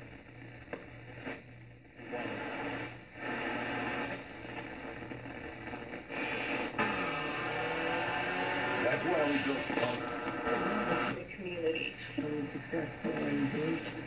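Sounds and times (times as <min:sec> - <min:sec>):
radio static hiss: 0:00.0 - 0:14.0
steady low hum: 0:00.0 - 0:14.0.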